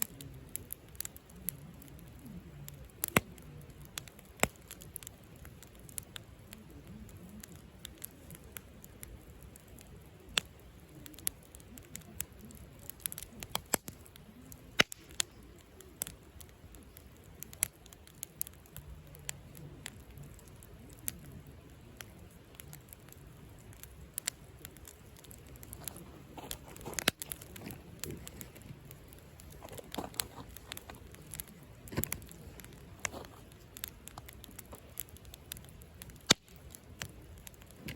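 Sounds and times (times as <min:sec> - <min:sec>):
campfire crackling and popping: 0:00.0 - 0:37.9
soft rush of flame: 0:00.0 - 0:37.9
wood snapping in fire: 0:00.0 - 0:37.9.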